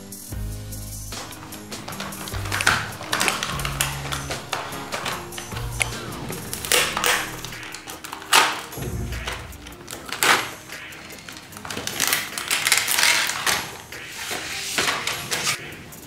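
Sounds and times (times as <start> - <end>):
plastic and cardboard crinkling: 1.1 - 15.6
plastic clacks: 1.1 - 15.6.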